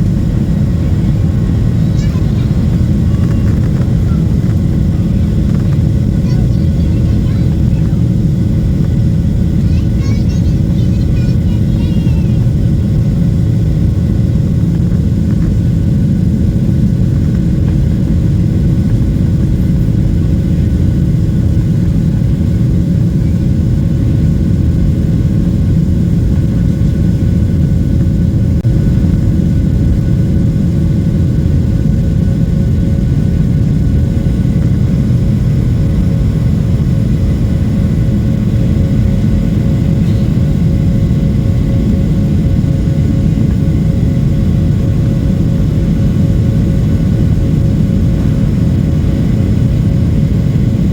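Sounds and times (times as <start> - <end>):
jet engine cabin rumble: 0.0 - 50.9.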